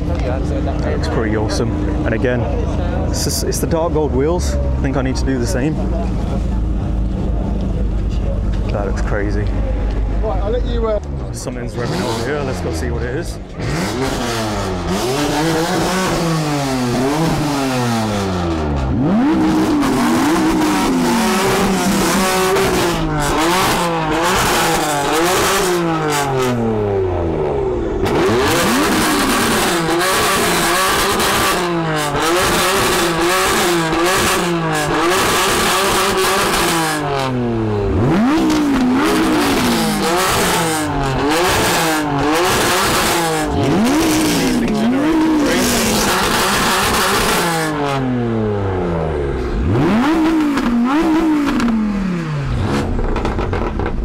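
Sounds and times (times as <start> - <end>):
exhaust crackles: 0.0 - 54.0
performance car engine revving: 0.0 - 54.0.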